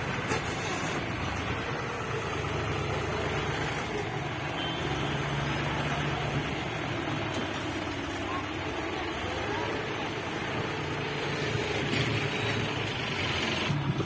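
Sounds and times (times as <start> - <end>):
tractor engine humming: 0.0 - 14.0.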